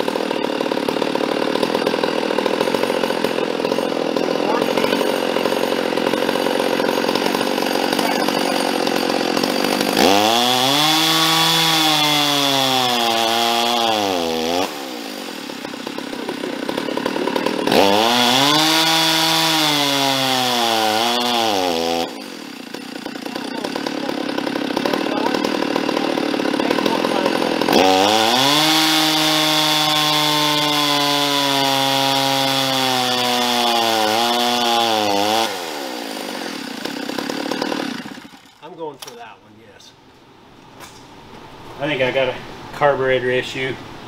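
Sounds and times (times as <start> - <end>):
chainsaw idling and revving: 0.0 - 39.2.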